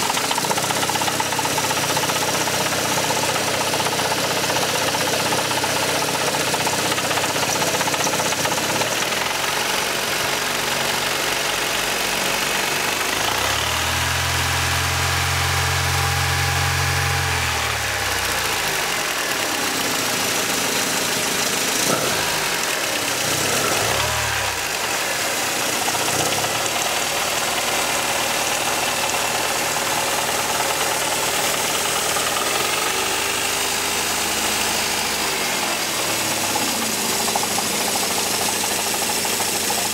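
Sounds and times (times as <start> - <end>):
car engine with rattling knock: 0.0 - 39.9.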